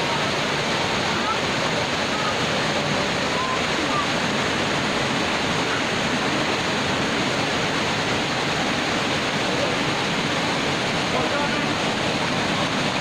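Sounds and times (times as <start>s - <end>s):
waterfall crashing: 0.0s - 13.0s.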